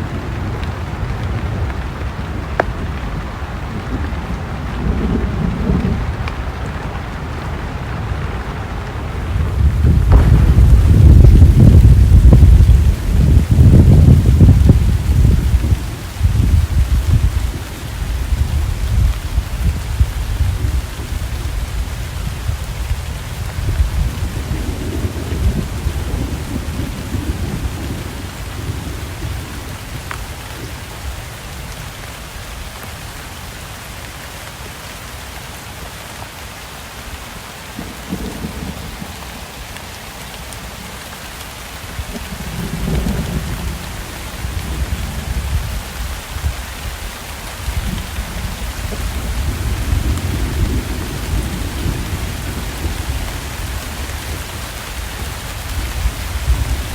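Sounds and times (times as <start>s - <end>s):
thunder rumbling: 0.0s - 32.0s, 37.7s - 56.9s
rain falling: 0.0s - 56.9s.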